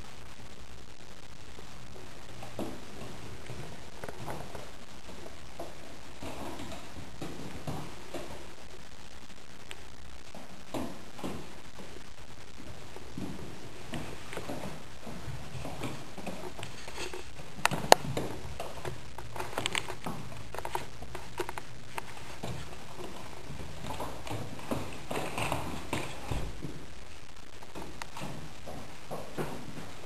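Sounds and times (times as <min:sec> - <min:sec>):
rabbit paws tapping on floor: 0:01.5 - 0:08.9, 0:09.6 - 0:30.0.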